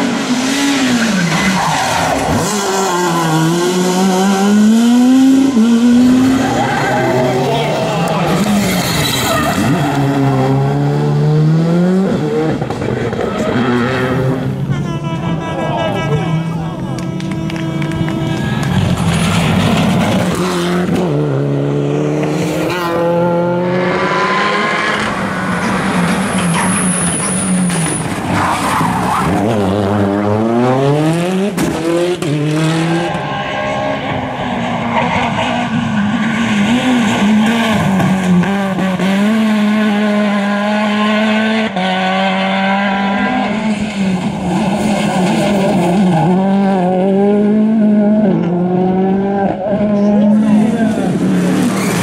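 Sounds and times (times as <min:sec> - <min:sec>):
rally car engines revving: 0:00.0 - 0:52.0.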